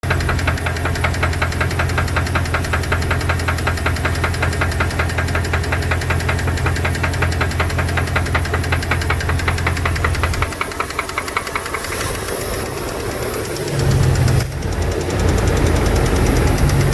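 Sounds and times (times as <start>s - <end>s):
engine low hum: 0.0s - 16.9s
engine ticking knock: 0.0s - 16.9s.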